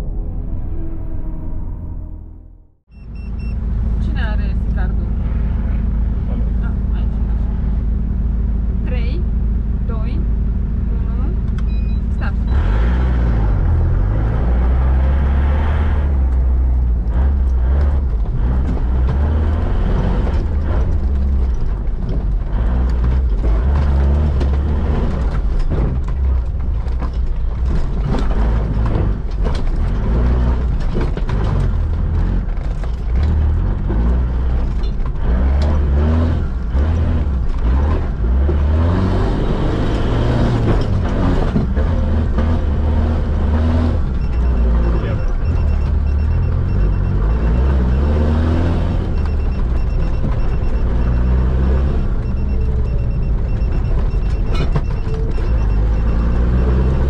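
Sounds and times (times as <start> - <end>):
engine running under load: 3.0 - 57.0
body and suspension rattling: 3.3 - 57.0.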